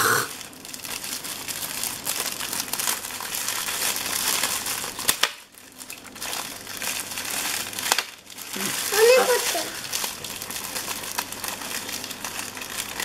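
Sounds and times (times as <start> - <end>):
gift wrapping crinkling: 0.3 - 13.0.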